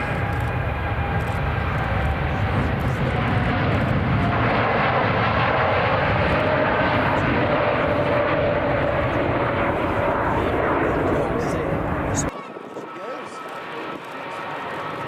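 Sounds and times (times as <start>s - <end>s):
jet airliner engines running: 0.0s - 15.0s.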